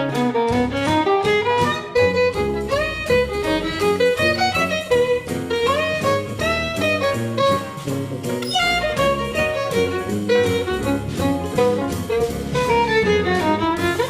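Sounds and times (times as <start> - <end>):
lively violin tune: 1.3 - 13.5.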